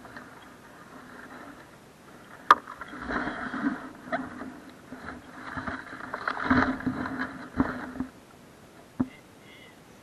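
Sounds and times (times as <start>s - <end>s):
water splashing against hull: 0.0s - 8.2s
boat motor humming: 0.0s - 10.0s.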